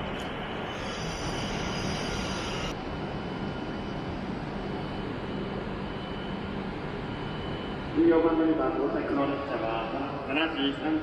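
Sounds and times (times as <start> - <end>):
high steady whine: 0.0 - 11.0.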